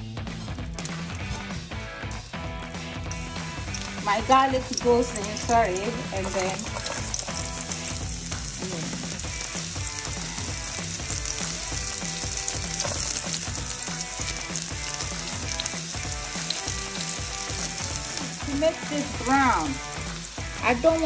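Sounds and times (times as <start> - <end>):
onion sizzling in a pan: 0.5 - 21.0.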